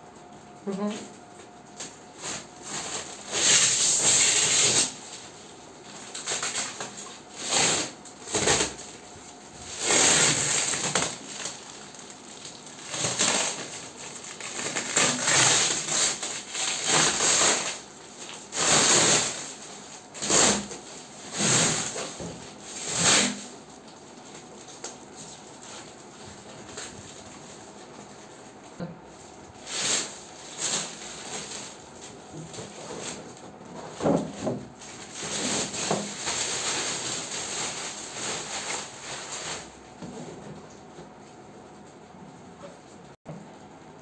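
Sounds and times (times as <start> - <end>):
plastic wrap crinkling: 0.1 - 40.8.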